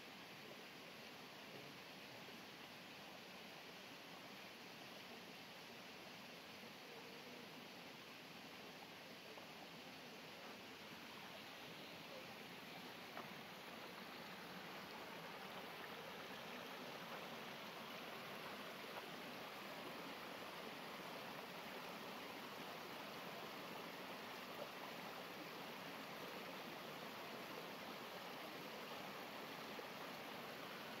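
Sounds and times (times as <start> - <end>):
stream water rushing: 0.1 - 31.0.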